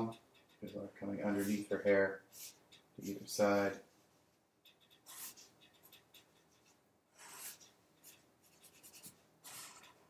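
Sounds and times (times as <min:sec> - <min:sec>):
marker scratching on paper: 0:00.0 - 0:03.3, 0:04.7 - 0:10.0.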